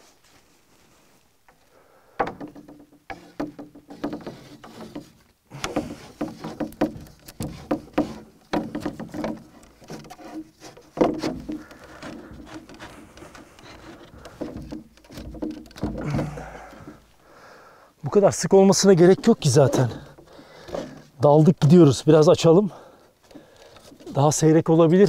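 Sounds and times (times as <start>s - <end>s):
twigs rustling and crackling: 0.0s - 25.0s.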